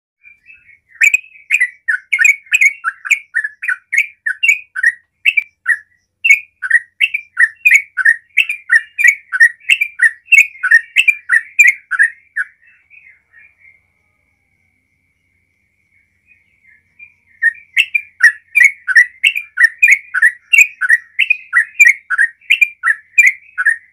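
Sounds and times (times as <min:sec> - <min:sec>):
bird singing bubbly notes: 0:00.2 - 0:13.8, 0:16.2 - 0:23.9.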